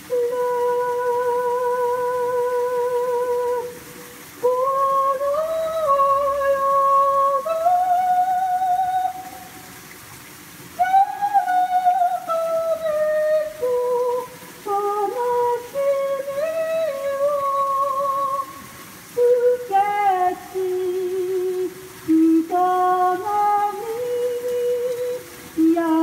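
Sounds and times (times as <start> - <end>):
woman singing with vibrato: 0.0 - 9.6, 10.8 - 26.0.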